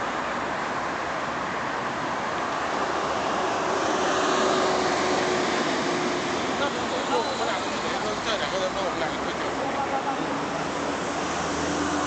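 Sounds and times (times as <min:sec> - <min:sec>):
city street traffic hum: 0:00.0 - 0:12.0.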